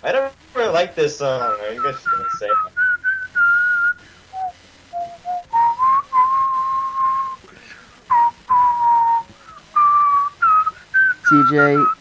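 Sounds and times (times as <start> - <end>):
person whistling a tune: 1.5 - 7.4, 8.1 - 12.0.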